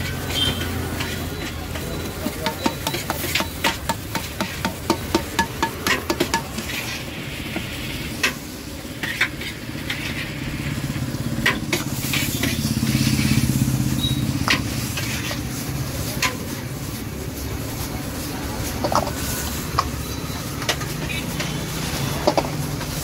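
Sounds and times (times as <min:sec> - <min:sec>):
food sizzling in a wok: 0:00.0 - 0:23.0
ladle clanking against wok: 0:00.1 - 0:17.9, 0:18.5 - 0:23.0.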